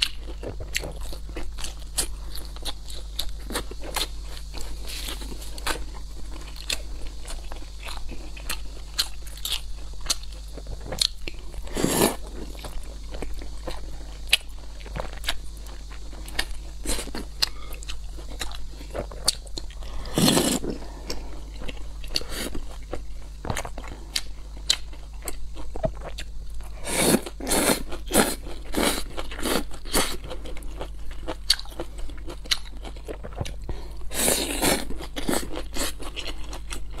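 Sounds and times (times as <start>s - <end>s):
crunching fried food: 0.0s - 37.0s
low steady hum: 0.0s - 37.0s.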